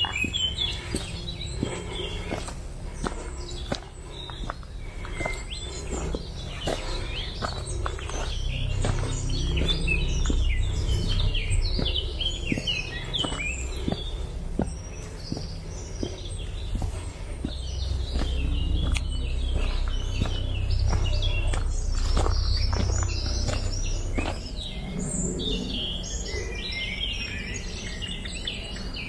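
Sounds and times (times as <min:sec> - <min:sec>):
low steady rumble: 0:00.0 - 0:27.9
footsteps on gravel: 0:00.0 - 0:28.2
small birds chirping: 0:00.0 - 0:29.0.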